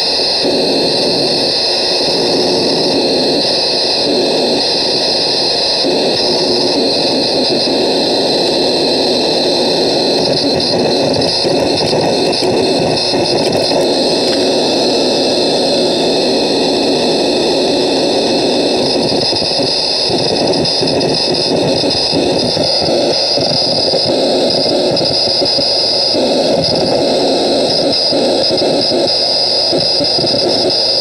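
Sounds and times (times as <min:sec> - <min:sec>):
loud static-like noise with hiss: 0:00.0 - 0:31.0.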